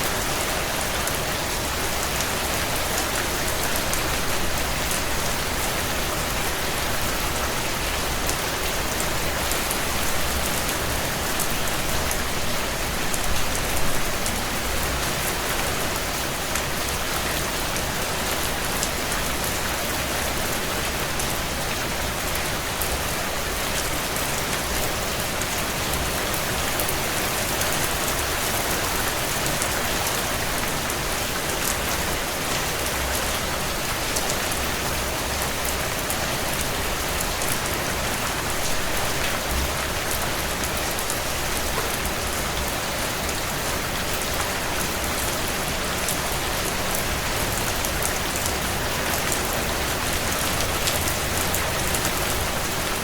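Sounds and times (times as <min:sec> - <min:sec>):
heavy rain on a window: 0:00.0 - 0:53.0.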